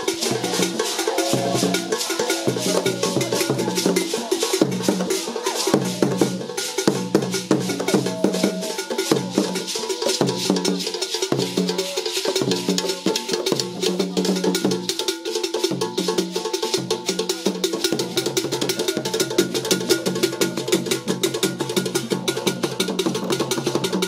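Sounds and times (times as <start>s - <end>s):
drumming dance rhythm: 0.0s - 24.0s.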